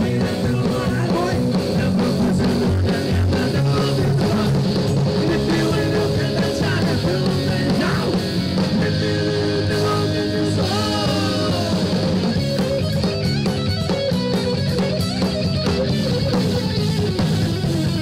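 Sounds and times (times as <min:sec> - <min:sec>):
bass guitar: 0:00.0 - 0:18.0
drums: 0:00.0 - 0:18.0
electric guitar: 0:00.0 - 0:18.0
sliding lead guitar line: 0:00.0 - 0:18.0.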